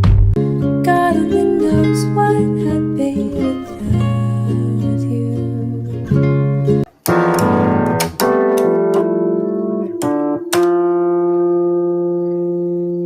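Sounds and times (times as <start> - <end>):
plucked guitar notes: 0.4 - 13.0.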